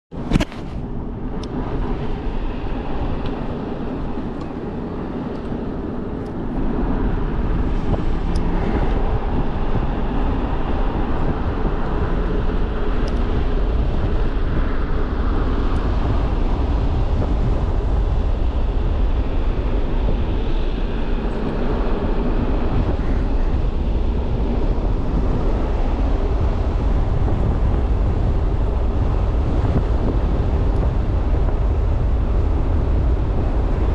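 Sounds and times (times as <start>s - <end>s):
motorcycle running: 0.2s - 33.9s.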